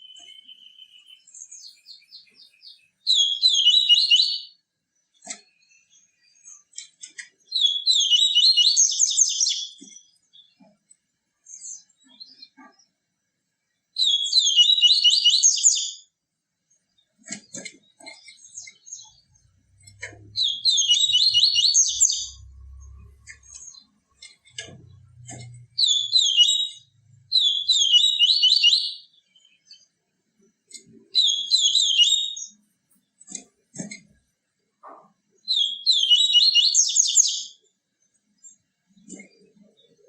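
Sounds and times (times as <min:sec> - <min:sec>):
bird twittering song: 0:00.0 - 0:10.8, 0:14.0 - 0:16.1, 0:16.7 - 0:30.0, 0:30.7 - 0:34.2, 0:34.9 - 0:40.0.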